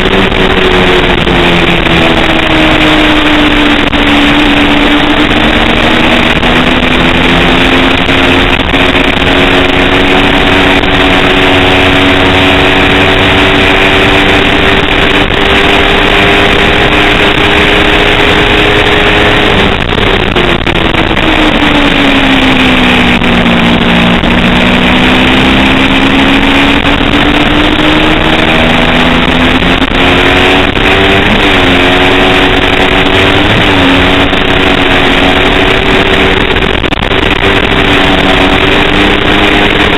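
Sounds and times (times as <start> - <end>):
motorcycle engine revving: 0.0 - 39.9
rush of noise: 0.0 - 39.9.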